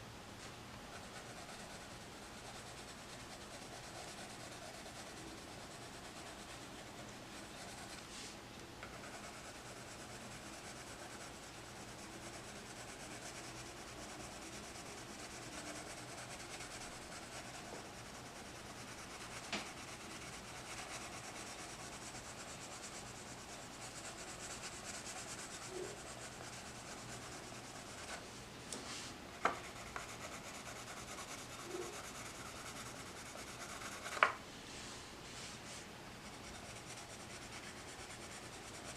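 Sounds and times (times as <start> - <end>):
pencil scratching on paper: 0.9 - 8.2, 8.8 - 28.2, 29.3 - 34.4, 36.2 - 38.9.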